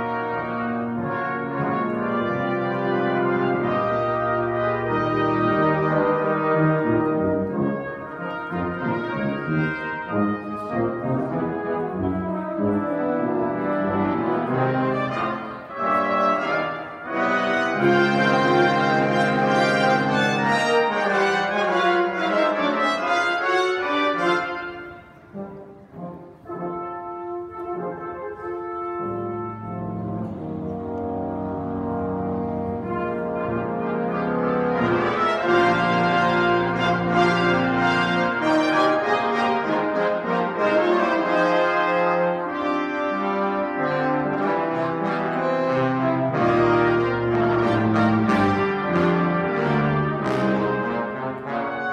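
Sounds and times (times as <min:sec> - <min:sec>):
brass ensemble fanfare: 0:00.0 - 0:51.9.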